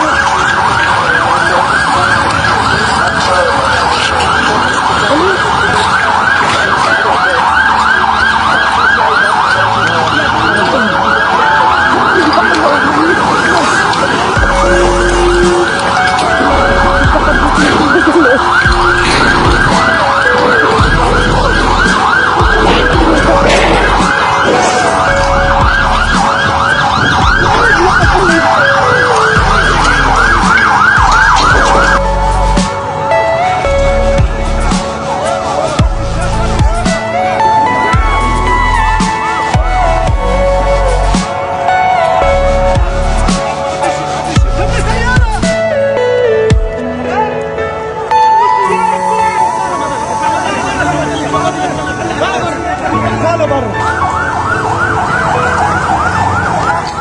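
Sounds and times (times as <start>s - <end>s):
siren yelping: 0.0s - 57.0s.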